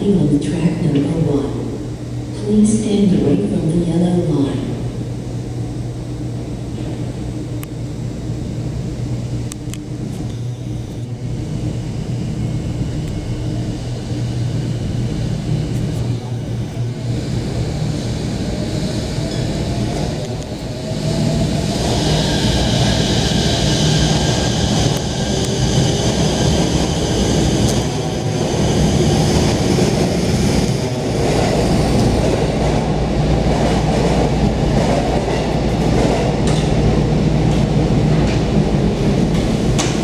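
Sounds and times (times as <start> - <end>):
monorail train hum and rumble: 0.0 - 40.0.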